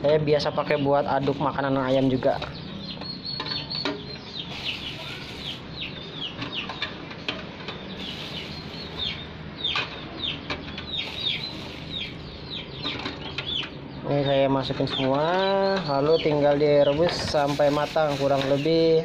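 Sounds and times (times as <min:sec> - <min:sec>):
chicks peeping: 0:00.2 - 0:19.0.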